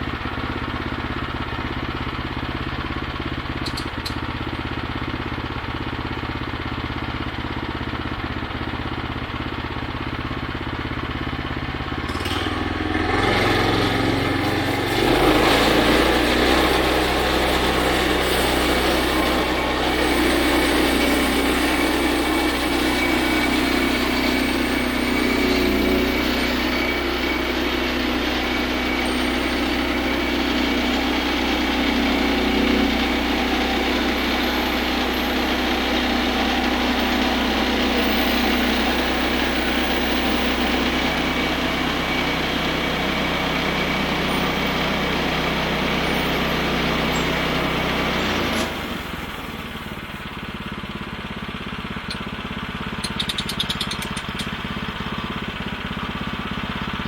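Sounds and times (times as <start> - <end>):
small gas engine: 0.0 - 57.0.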